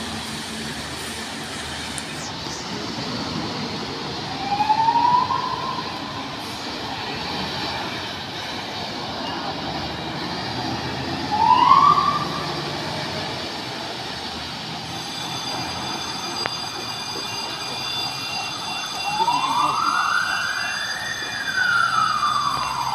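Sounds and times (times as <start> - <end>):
fire engine siren: 0.0 - 22.9
truck engine rumbling: 0.0 - 22.9.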